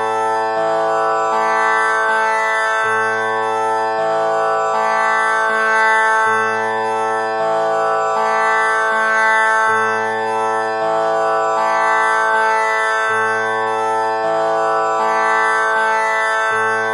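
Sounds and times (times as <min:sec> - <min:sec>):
tanpura drone: 0:00.0 - 0:16.9.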